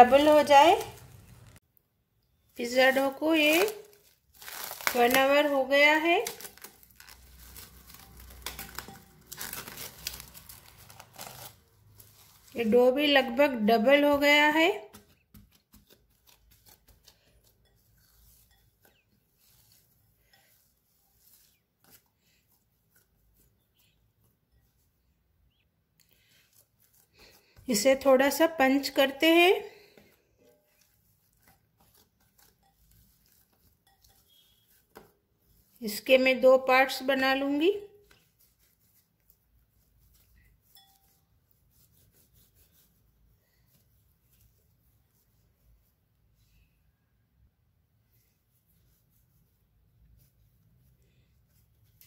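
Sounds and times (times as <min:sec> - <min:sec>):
dough squelching: 0:00.0 - 0:46.7, 0:47.6 - 0:52.0.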